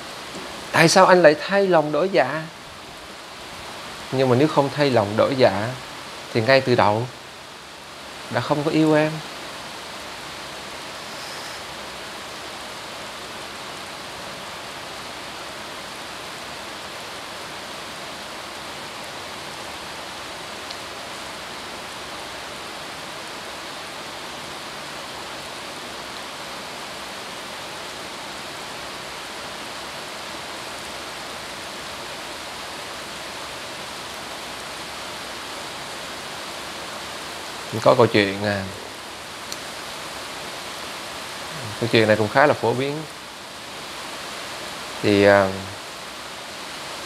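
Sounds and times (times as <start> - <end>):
steady background hiss: 0.0 - 47.0.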